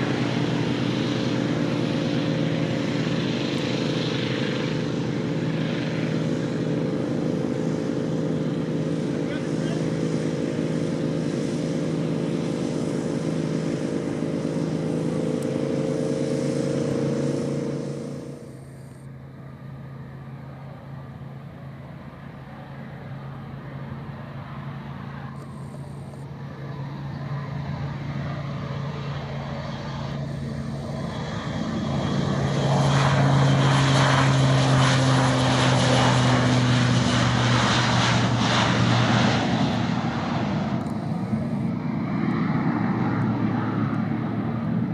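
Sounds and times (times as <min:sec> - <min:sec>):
propeller aircraft engine hum: 0:00.0 - 0:44.9.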